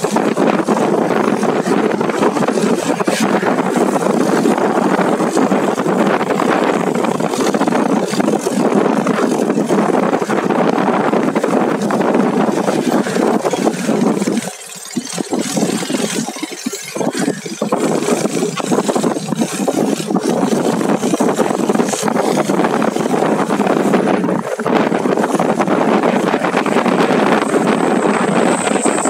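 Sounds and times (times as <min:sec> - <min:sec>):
motorcycle engine: 0:00.0 - 0:29.0
road noise: 0:00.0 - 0:29.0
wind on microphone: 0:00.0 - 0:29.0.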